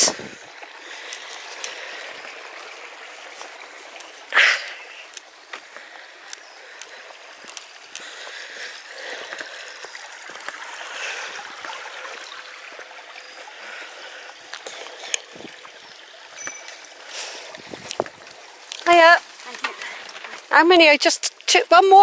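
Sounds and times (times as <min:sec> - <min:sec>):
stream babbling: 0:00.0 - 0:22.0.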